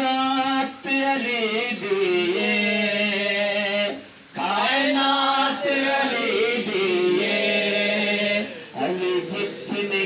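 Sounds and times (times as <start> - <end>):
man singing devotional song: 0.0 - 10.0.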